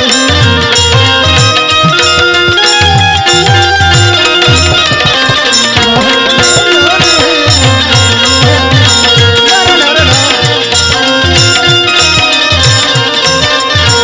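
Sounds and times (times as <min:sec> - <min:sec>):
electronic keyboard melody: 0:00.0 - 0:14.0
harmonium: 0:00.0 - 0:14.0
tabla with deep bass strokes: 0:00.0 - 0:14.0.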